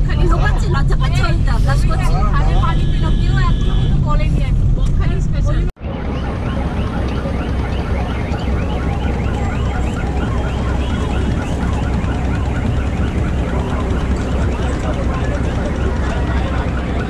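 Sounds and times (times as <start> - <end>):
ferry engine rumbling: 0.0 - 17.0.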